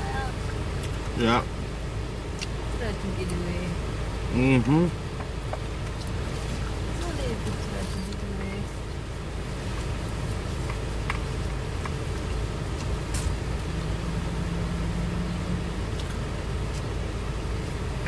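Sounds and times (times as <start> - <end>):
car idling: 0.0 - 18.0.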